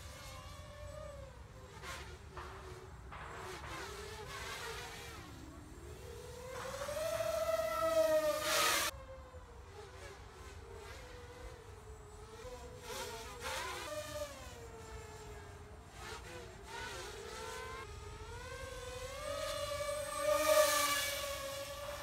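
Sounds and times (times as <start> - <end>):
quadcopter buzzing whine: 0.0 - 22.0.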